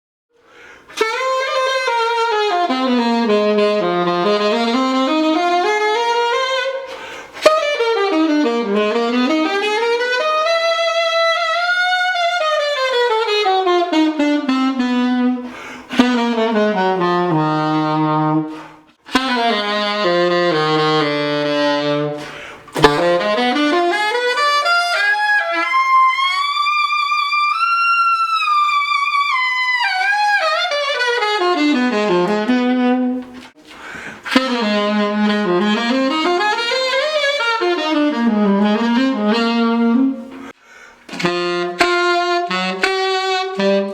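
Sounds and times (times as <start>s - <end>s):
saxophone playing fast runs: 0.9s - 43.9s.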